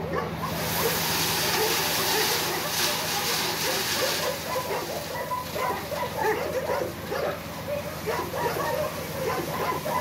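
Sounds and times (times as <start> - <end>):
dogs barking: 0.0 - 10.0
truck engine hum: 0.0 - 10.0
gravel sliding: 0.5 - 10.0.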